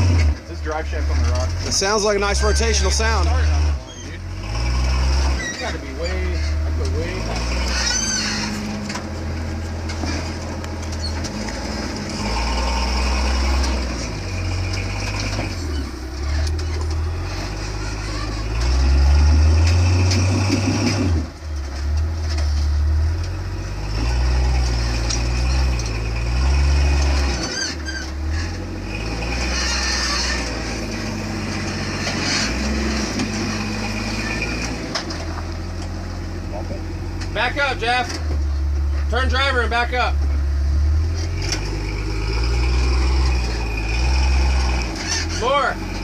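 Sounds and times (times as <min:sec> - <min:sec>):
off-road engine revving: 0:00.0 - 0:46.0.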